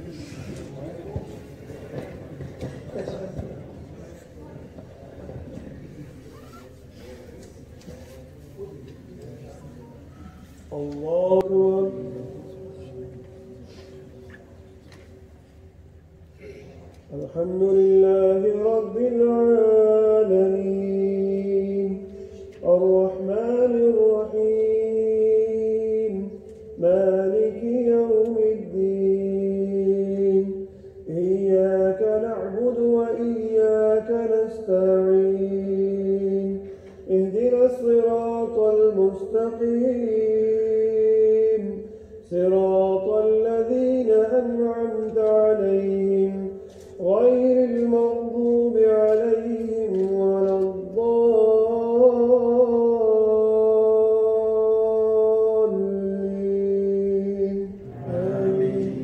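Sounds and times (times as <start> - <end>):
man chanting melodically: 5.2 - 14.8, 16.9 - 59.0.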